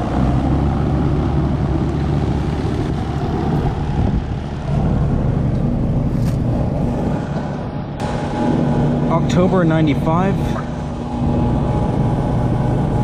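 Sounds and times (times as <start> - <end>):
air conditioner fan whoosh: 0.0 - 13.0.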